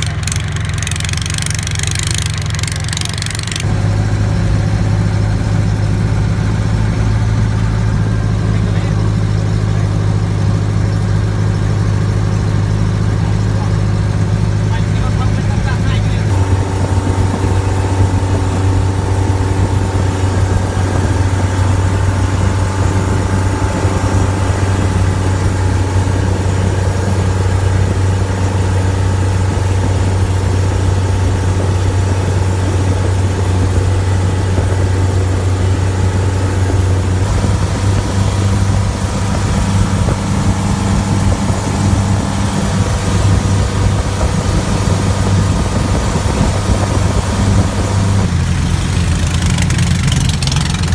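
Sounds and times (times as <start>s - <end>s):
boat engine humming: 0.0s - 50.9s.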